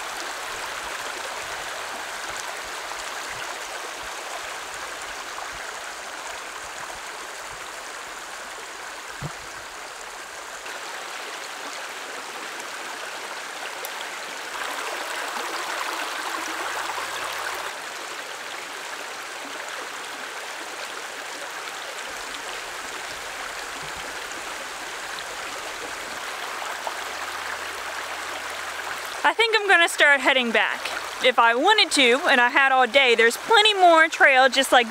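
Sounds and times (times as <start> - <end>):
stream running: 0.0 - 34.9.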